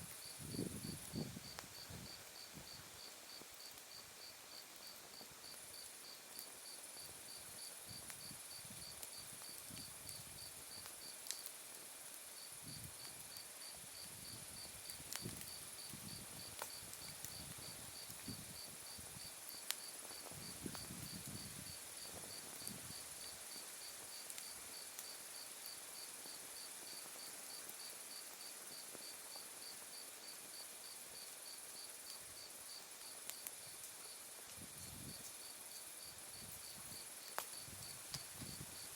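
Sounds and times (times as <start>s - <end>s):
burning wood pops: 0.0s - 27.9s, 32.9s - 35.4s, 36.4s - 38.9s
wood fire crackling: 0.0s - 38.9s.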